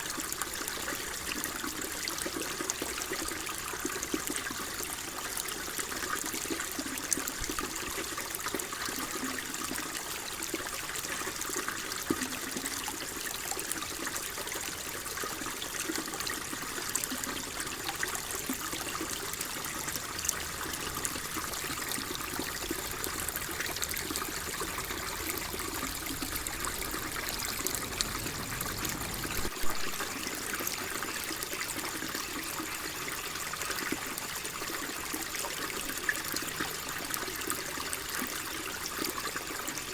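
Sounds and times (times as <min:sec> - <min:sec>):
water flowing and trickling: 0:00.0 - 0:39.9.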